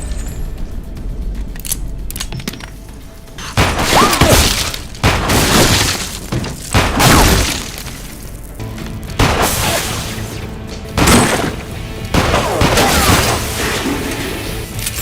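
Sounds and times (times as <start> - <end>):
action film music: 0.0 - 15.0.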